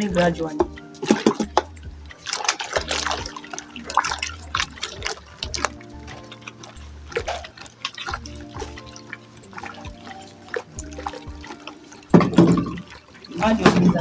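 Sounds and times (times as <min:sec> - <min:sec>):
background music with bass: 0:00.0 - 0:14.0
wet sloshing in a bowl: 0:00.0 - 0:14.0.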